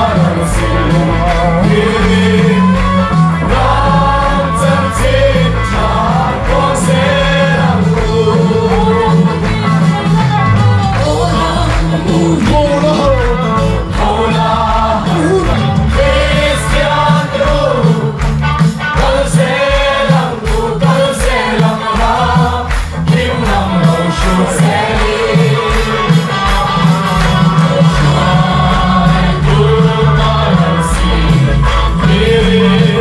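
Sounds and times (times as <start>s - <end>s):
group of voices singing: 0.0s - 33.0s
instrumental backing with beat: 0.0s - 33.0s.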